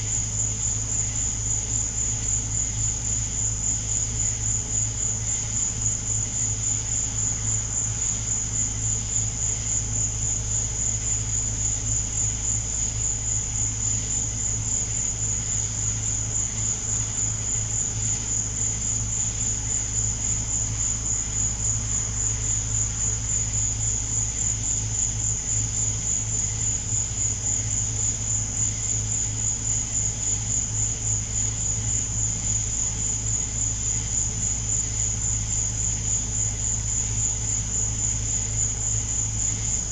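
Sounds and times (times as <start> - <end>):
night insects pulsing chorus: 0.0 - 39.9.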